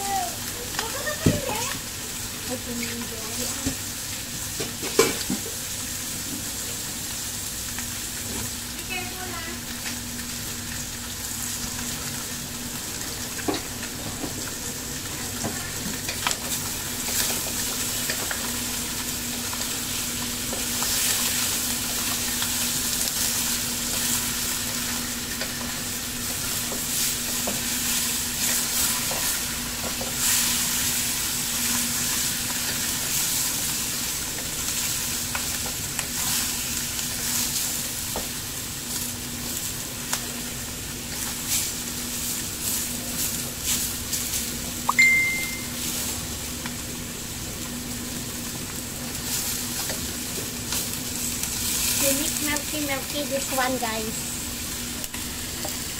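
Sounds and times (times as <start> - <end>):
fish sizzling in hot oil: 0.0 - 55.9.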